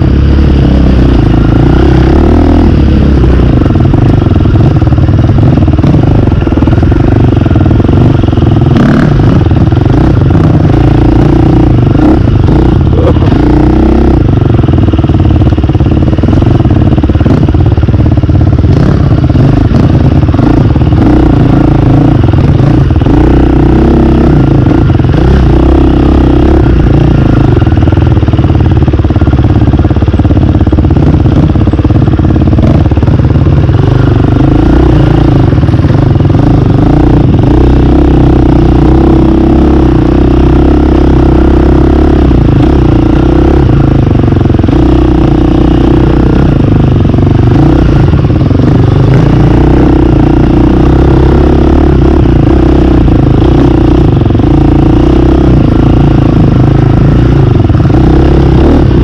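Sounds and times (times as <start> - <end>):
dirt bike engine revving: 0.0 - 30.0, 33.6 - 59.0.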